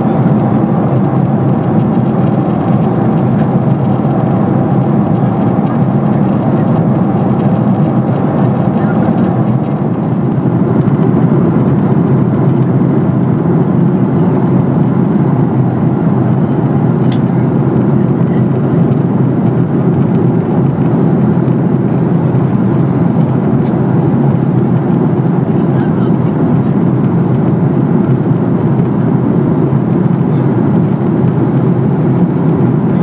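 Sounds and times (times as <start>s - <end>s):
aircraft cabin roar: 0.0s - 33.0s.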